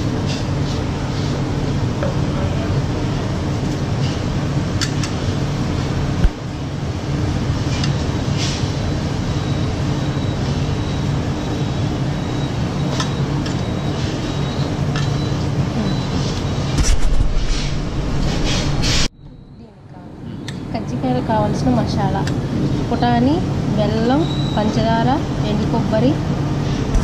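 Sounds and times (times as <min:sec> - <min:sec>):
machine humming with high whine: 0:00.0 - 0:27.0.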